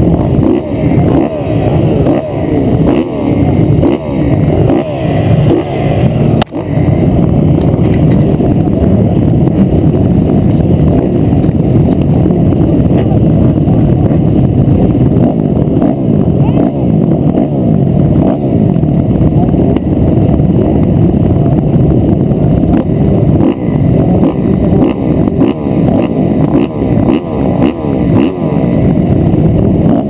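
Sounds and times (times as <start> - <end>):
motorbikes revving: 0.0 - 30.0.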